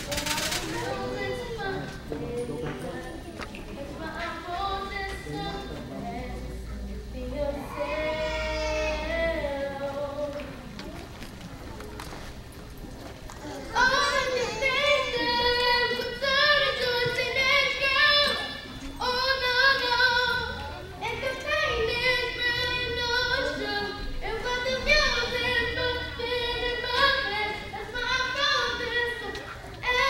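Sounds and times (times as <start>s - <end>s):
child singing: 0.0s - 10.6s, 13.5s - 30.0s.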